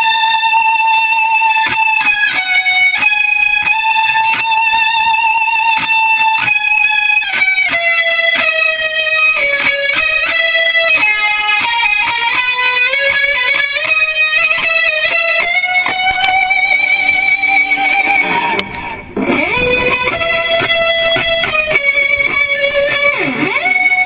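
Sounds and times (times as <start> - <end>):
guitar-led background music: 0.0 - 24.0.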